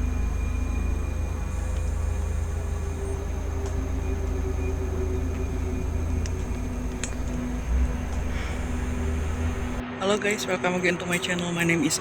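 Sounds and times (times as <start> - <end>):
faint humming tones: 0.0 - 9.8
steady low rumble: 0.0 - 9.8.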